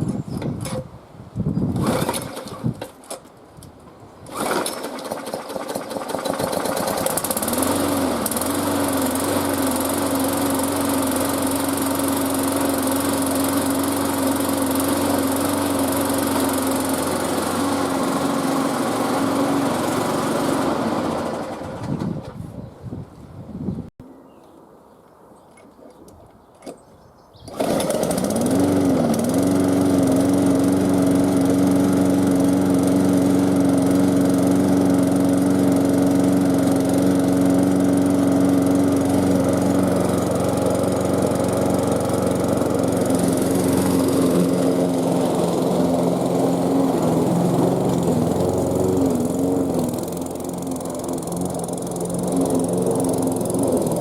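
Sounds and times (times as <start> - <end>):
lawn mower engine running: 1.7 - 3.3, 4.2 - 22.4, 27.5 - 54.0.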